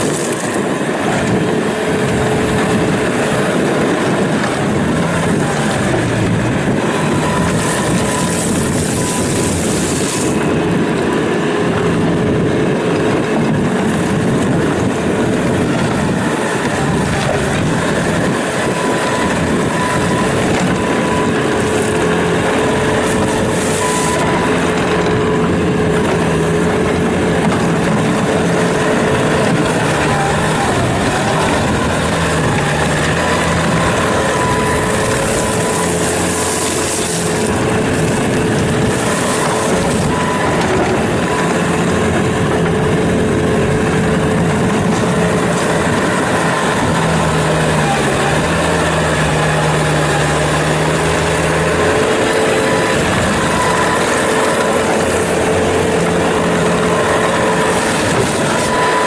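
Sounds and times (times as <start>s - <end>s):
diesel engine running: 0.0s - 59.0s
steady whine: 0.0s - 59.0s.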